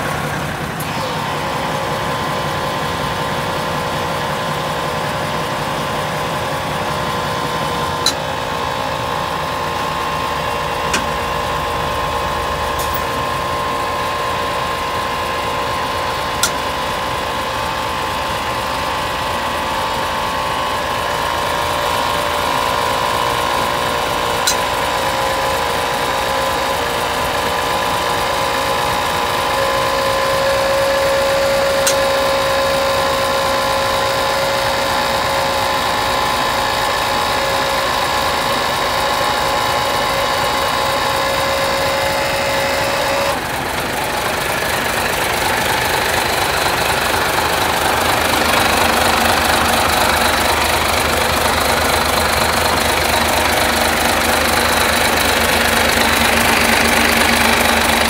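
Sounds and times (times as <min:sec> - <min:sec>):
diesel truck engine idling: 0:00.0 - 0:58.0
steady whine: 0:00.0 - 0:58.0.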